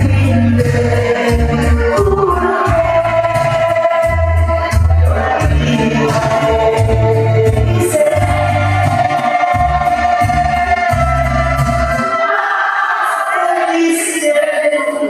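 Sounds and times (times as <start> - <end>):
bass line: 0.0 - 12.4
latin dance music with singing: 0.0 - 15.0.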